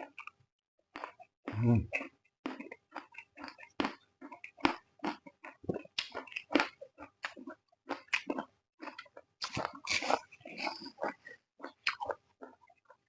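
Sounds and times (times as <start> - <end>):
chewing raw vegetables: 0.0 - 13.0.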